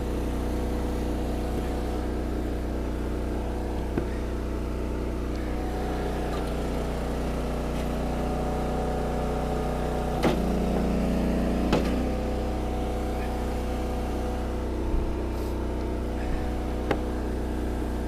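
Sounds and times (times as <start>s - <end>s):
wood splitter engine running: 0.0s - 18.0s.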